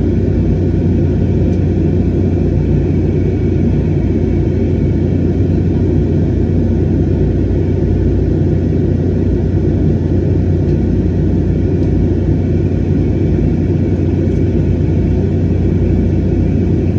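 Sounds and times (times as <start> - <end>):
airliner cabin noise: 0.0 - 16.9
low steady hum: 0.0 - 16.9.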